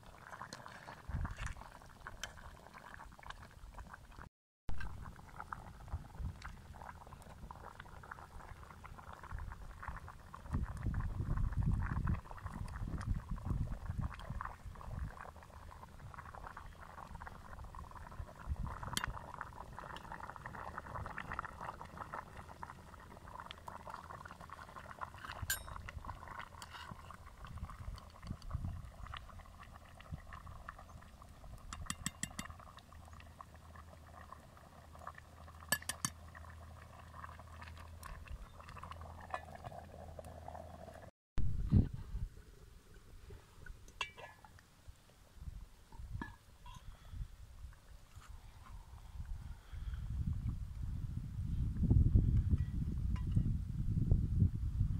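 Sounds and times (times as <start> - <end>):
pot of broth bubbling: 0.0 - 41.1, 41.7 - 54.9.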